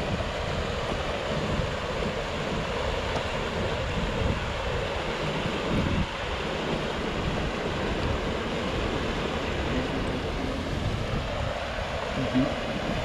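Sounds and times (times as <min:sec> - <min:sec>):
rocky stream rushing: 0:00.0 - 0:13.0
wind buffeting microphone: 0:00.0 - 0:13.0.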